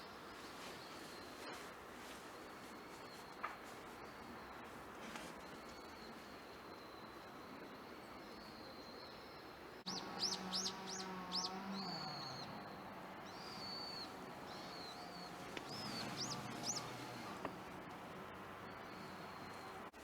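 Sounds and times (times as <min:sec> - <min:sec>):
small songbird chirping: 0:00.0 - 0:20.0.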